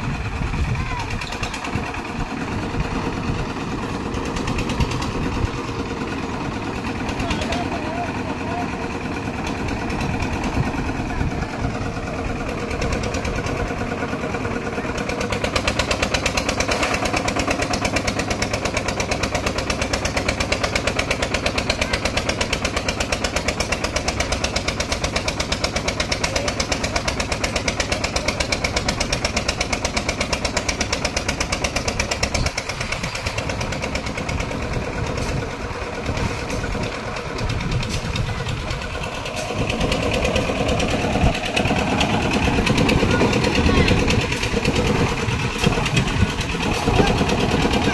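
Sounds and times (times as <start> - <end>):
concrete mixer engine running: 0.0 - 47.9.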